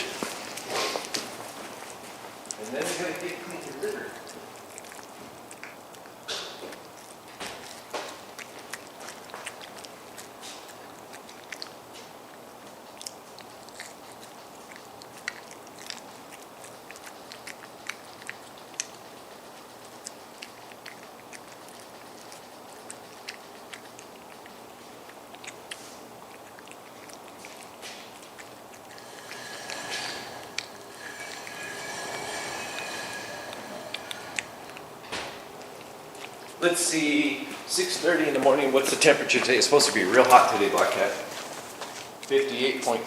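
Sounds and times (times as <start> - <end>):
cat chewing: 0.0 - 43.0
steady background noise: 0.0 - 43.0.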